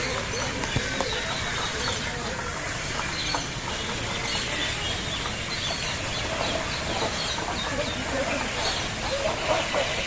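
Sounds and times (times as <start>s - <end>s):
birds chirping: 0.0s - 10.0s
low background noise: 0.0s - 10.0s.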